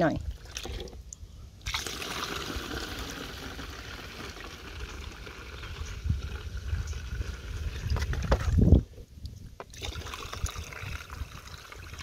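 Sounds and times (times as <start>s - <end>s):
water pouring and splashing: 0.0s - 8.8s, 9.6s - 12.0s.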